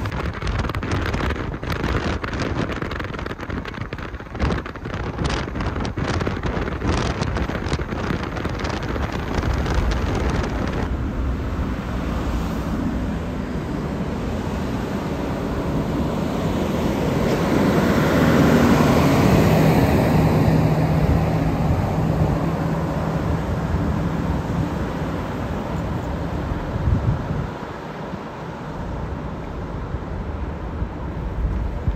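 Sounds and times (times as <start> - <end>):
truck diesel engine: 0.0 - 31.9
tyre noise on road: 0.0 - 31.9.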